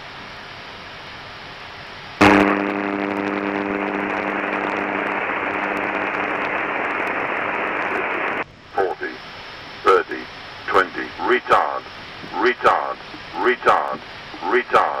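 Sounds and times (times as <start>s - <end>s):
faint headset hiss: 0.0s - 15.0s
loud radio static: 2.2s - 15.0s
low hum: 2.2s - 15.0s.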